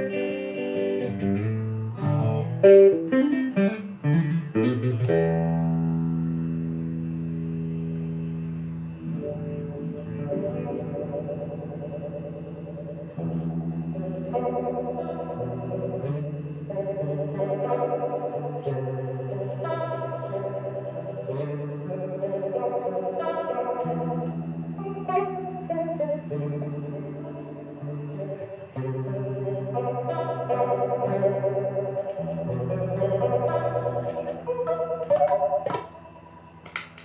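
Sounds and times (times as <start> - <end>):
electric guitar chords with modulation: 0.0 - 37.0.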